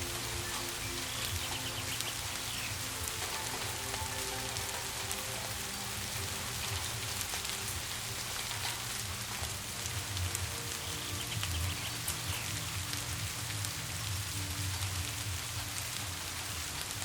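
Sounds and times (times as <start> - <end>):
raindrops ticking close: 0.0 - 17.0
soft music in long tones: 0.0 - 17.0
steady rain: 0.0 - 17.0.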